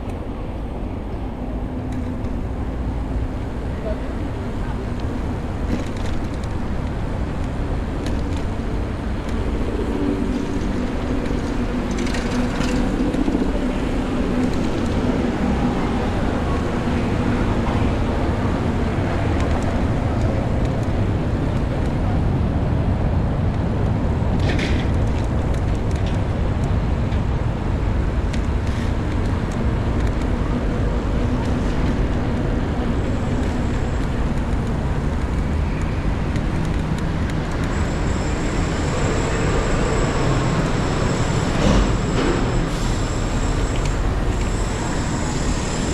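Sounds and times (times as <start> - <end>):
city street traffic: 0.0 - 45.9
wind rumble on microphone: 0.0 - 45.9.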